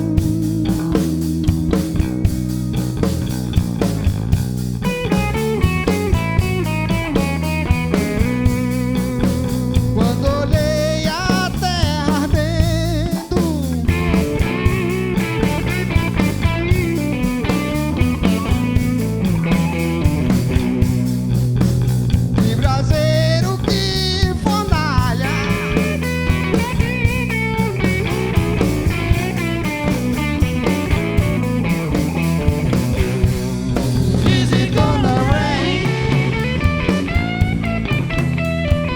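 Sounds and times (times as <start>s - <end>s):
bass guitar: 0.0s - 38.9s
drum kit beat: 0.0s - 38.9s
electric guitar lead: 0.0s - 38.9s.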